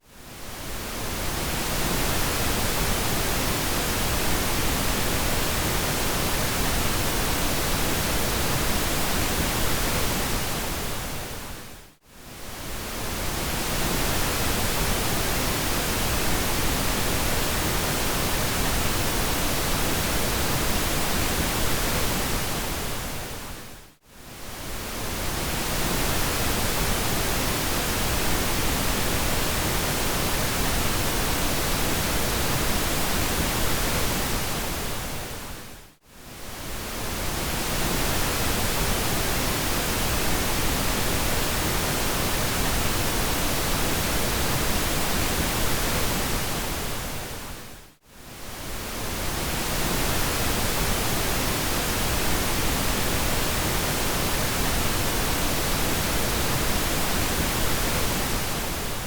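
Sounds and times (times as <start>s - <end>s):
pink noise hiss: 0.2s - 59.0s.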